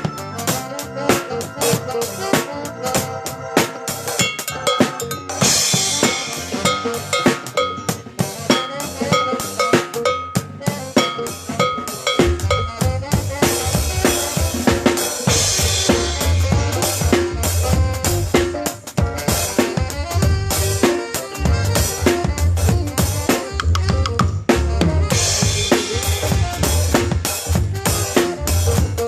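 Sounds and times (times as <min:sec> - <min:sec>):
deep bass: 0:00.0 - 0:29.0
drum kit playing fast rhythm: 0:00.0 - 0:29.0.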